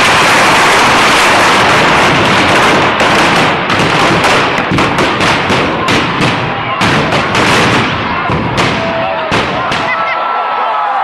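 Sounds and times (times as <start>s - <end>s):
firecrackers banging: 0.0s - 10.2s.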